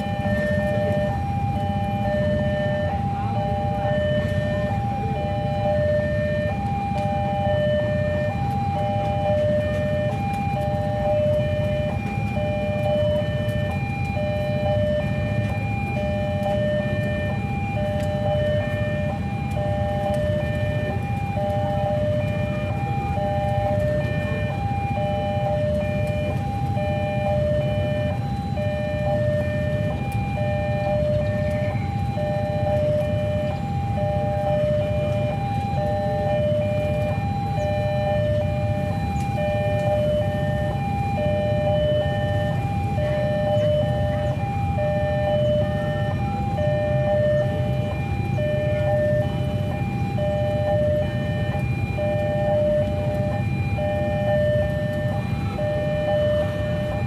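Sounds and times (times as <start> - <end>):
two-tone crossing alarm: 0.0 - 57.0.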